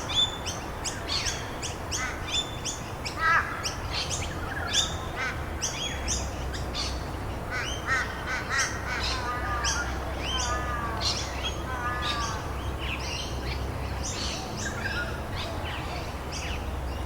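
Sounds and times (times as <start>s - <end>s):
songbirds chirping: 0.0s - 17.0s
steady background hiss: 0.0s - 17.0s.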